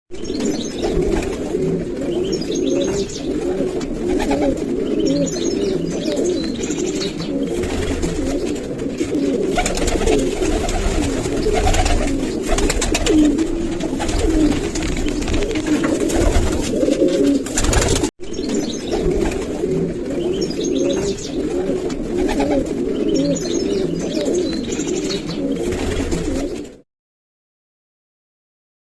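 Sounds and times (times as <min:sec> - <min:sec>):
pigeons cooing: 0:00.2 - 0:26.8.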